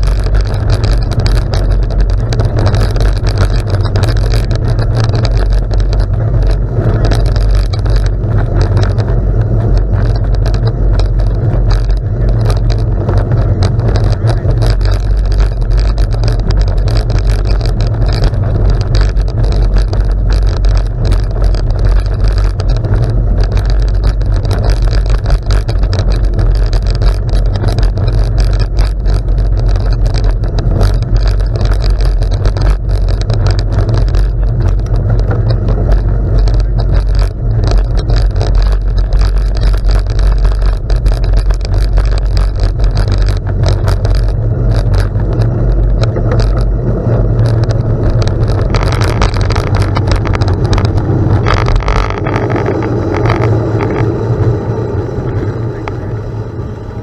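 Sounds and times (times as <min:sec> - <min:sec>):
bicycle tyres on gravel: 0:00.0 - 0:57.0
low rumble: 0:00.0 - 0:57.0
small clicks and rattles: 0:00.0 - 0:57.0
wind on microphone: 0:00.0 - 0:57.0.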